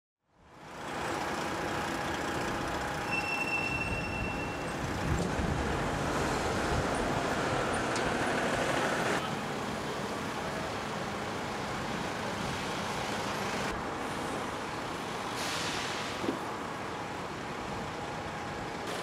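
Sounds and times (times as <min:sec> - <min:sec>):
passing traffic rush: 0:00.4 - 0:19.0.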